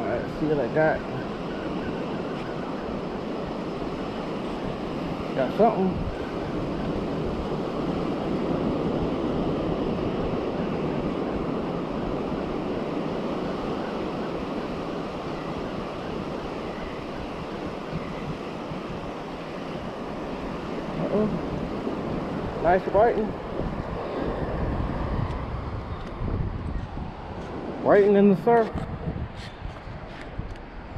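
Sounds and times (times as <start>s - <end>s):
ocean surf on sandy beach: 0.0s - 30.9s
wind buffeting microphone: 0.0s - 30.9s.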